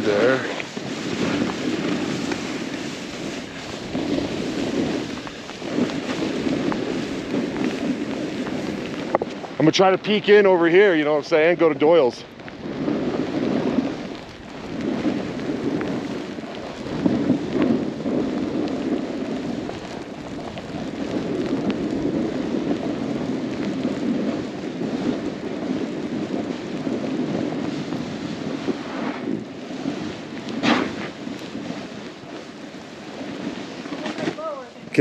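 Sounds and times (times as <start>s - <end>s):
snowboard scraping over icy snow: 0.0s - 35.0s.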